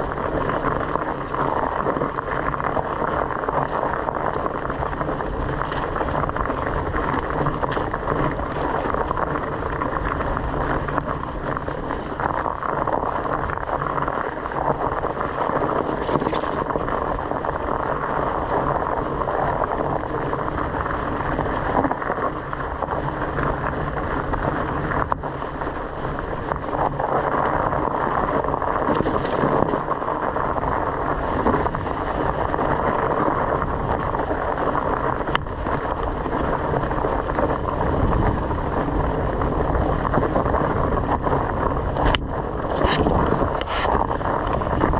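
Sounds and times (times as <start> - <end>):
bike knocks and rattles: 0.0 - 22.0, 22.8 - 44.9
bicycle tyres rolling on dirt: 0.0 - 44.9
wind on microphone: 0.0 - 44.9.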